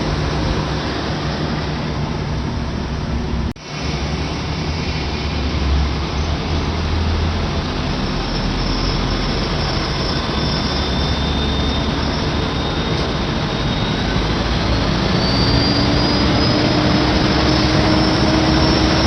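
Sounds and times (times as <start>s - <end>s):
railcar running rumble: 0.0s - 19.0s.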